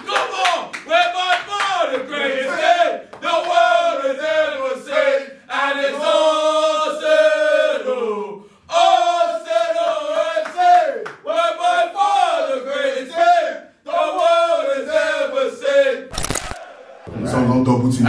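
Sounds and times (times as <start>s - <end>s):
men chanting and shouting: 0.0s - 17.5s.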